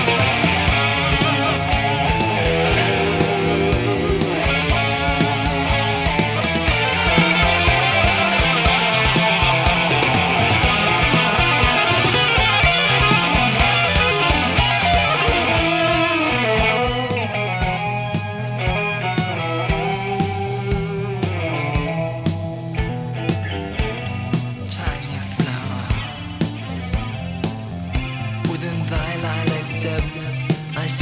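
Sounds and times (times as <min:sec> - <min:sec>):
bass guitar: 0:00.0 - 0:31.0
busy drum kit: 0:00.0 - 0:31.0
electric lead guitar: 0:00.0 - 0:31.0.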